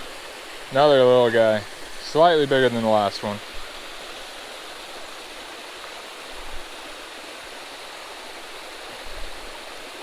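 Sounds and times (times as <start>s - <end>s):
creek water over small waterfall: 0.0s - 10.0s.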